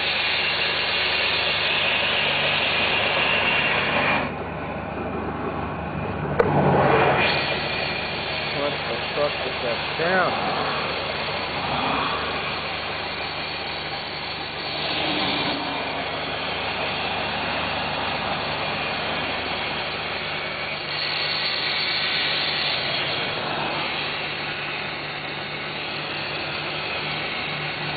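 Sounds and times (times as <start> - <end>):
bright hiss: 0.0 - 4.3, 7.1 - 27.9
car engine running: 4.3 - 27.9.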